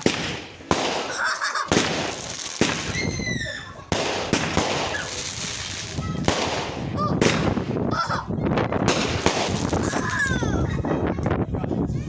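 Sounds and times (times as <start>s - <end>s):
fireworks crackling: 0.0s - 7.9s, 8.8s - 10.6s
fireworks bangs: 0.0s - 10.6s.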